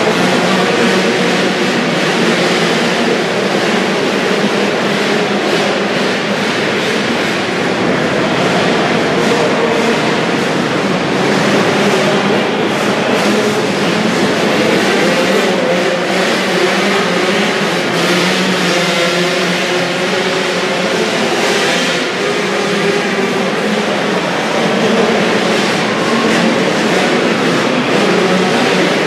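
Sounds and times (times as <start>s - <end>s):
motocross bikes revving: 0.0s - 29.0s.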